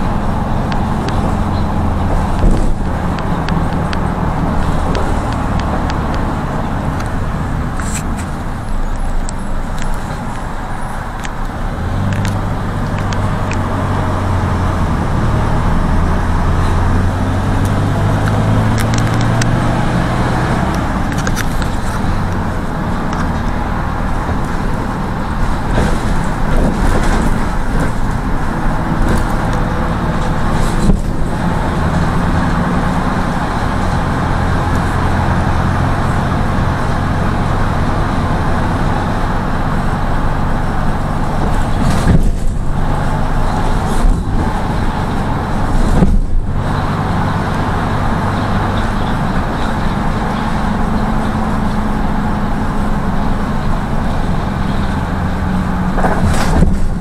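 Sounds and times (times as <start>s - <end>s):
minibus engine cruising: 0.0s - 57.0s
road and tyre noise: 0.0s - 57.0s.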